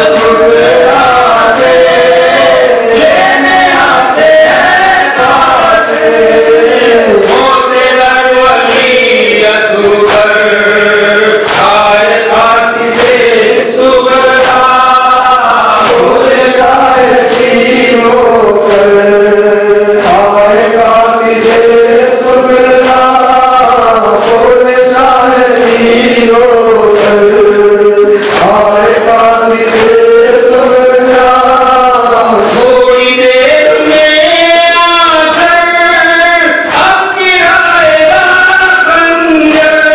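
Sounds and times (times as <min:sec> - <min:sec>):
men chanting through microphones: 0:00.0 - 0:39.9.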